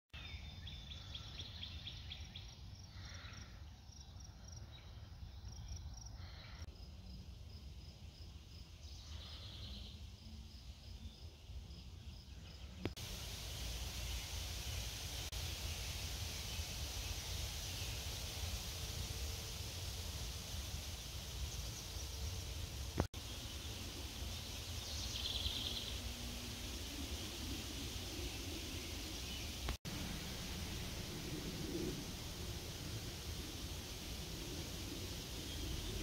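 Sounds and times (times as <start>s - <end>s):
steady hiss: 0.6s - 36.0s.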